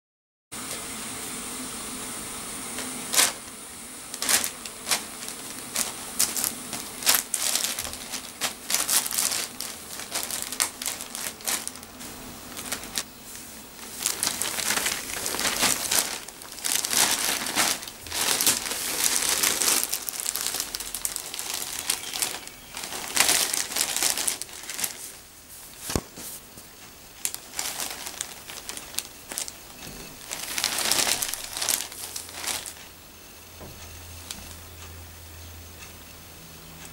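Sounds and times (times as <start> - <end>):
plastic bag crinkling: 2.8 - 3.5, 4.1 - 33.0.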